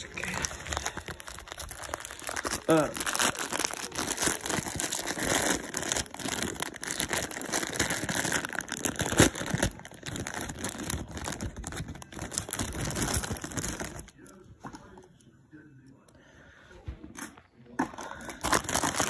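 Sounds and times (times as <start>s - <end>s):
plastic bag crinkling: 0.0s - 14.4s, 18.0s - 19.0s.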